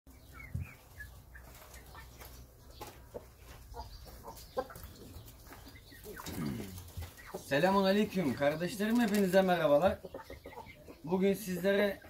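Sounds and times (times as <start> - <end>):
chickens clucking: 0.1 - 12.0.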